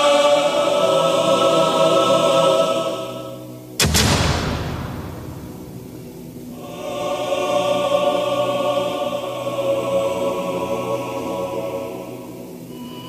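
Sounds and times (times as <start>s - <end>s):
choir-like sustained chord: 0.0s - 13.0s.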